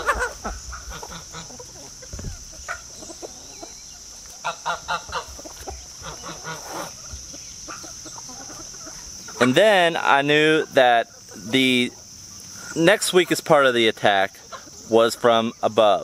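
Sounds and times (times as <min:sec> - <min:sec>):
poultry calling: 0:00.0 - 0:15.8
insect trill: 0:00.0 - 0:16.0.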